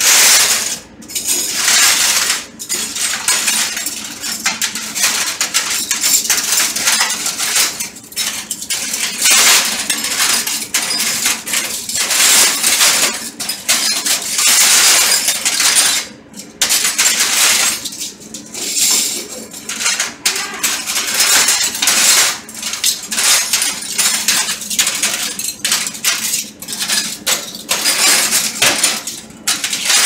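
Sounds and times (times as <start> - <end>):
cutlery clattering on steel counter: 0.0 - 30.0.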